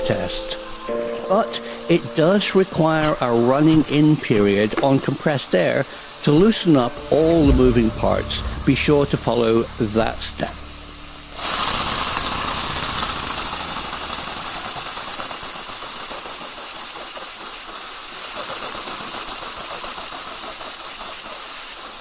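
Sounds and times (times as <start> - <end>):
model steam engine exhaust hiss: 0.0 - 22.0.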